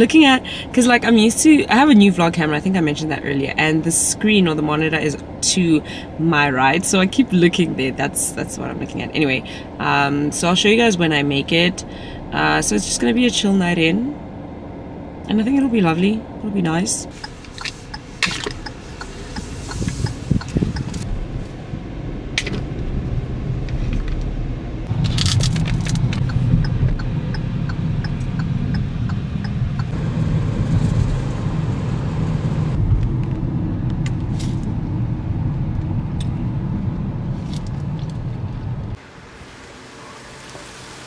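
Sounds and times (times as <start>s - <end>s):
car cabin rumble: 0.0s - 40.7s.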